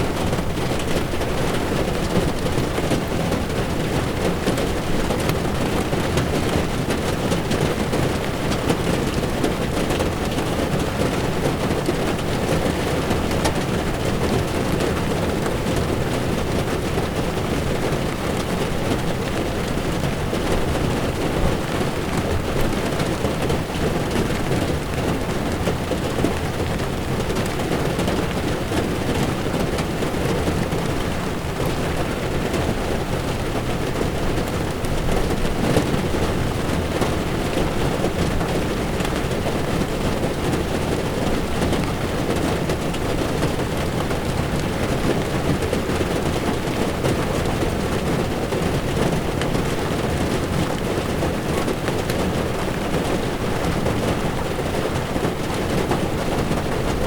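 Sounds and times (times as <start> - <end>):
heavy rain on car windshield: 0.0 - 57.0
tyres rumbling on wet road: 0.0 - 57.0.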